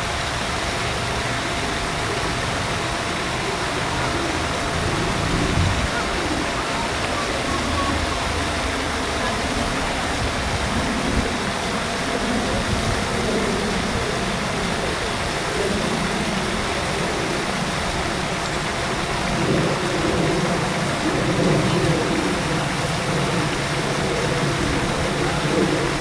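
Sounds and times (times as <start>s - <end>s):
steady rushing noise: 0.0s - 26.0s
uneven low rumble: 2.9s - 26.0s.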